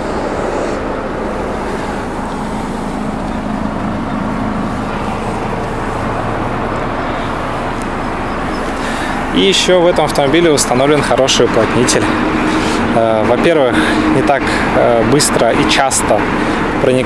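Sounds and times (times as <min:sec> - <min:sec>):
road traffic noise: 0:00.0 - 0:17.0
vehicle engine rumbling: 0:00.0 - 0:17.0.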